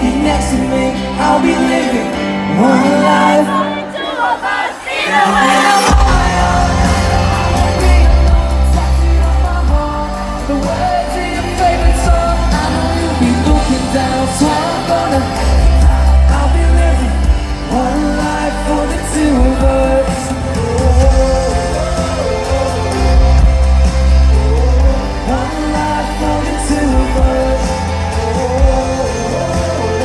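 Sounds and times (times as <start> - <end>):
live pop-rock band playing: 0.0 - 30.0
person singing: 0.0 - 30.0.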